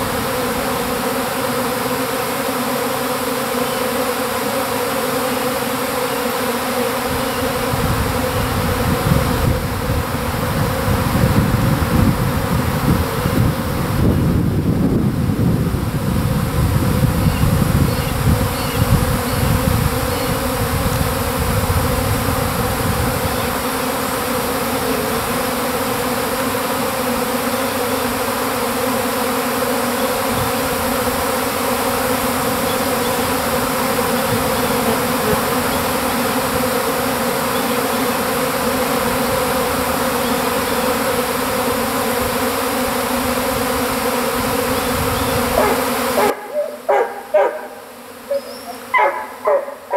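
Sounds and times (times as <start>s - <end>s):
swarm of bees humming: 0.0s - 49.9s.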